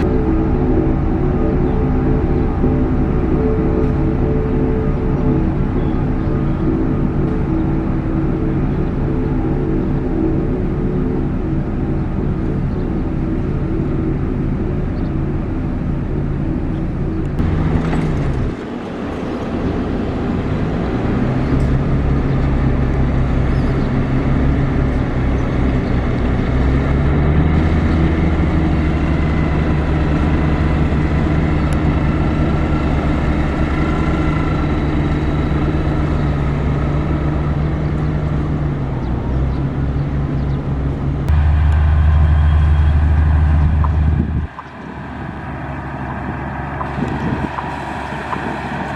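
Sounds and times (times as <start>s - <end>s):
deep loud engine: 0.0s - 48.9s
diesel engine under load: 0.0s - 48.9s.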